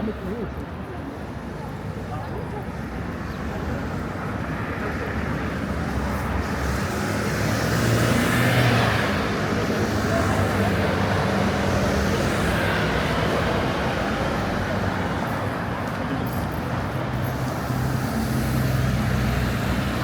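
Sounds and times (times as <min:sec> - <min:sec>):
street traffic engines: 0:00.0 - 0:20.0.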